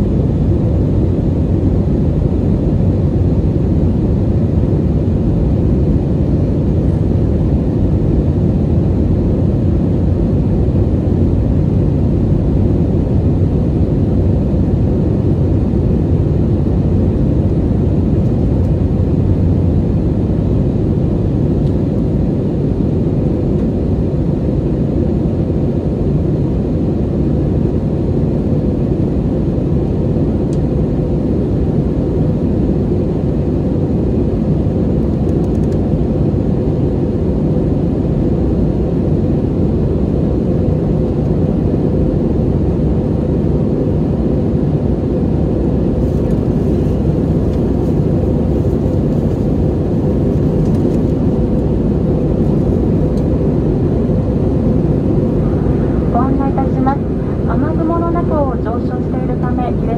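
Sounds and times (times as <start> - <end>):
faint steady hum: 0.0 - 59.9
jet engines and rushing air: 0.0 - 59.9.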